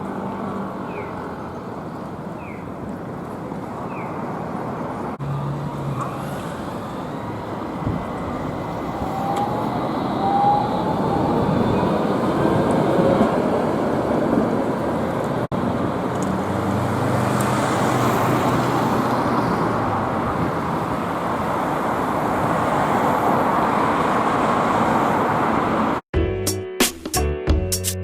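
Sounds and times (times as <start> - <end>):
street traffic noise: 0.0 - 26.1.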